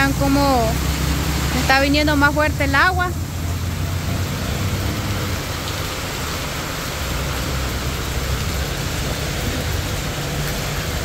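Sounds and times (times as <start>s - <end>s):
heavy rain on paved road: 0.0s - 11.0s
low rumble of vehicle engines: 0.0s - 11.0s.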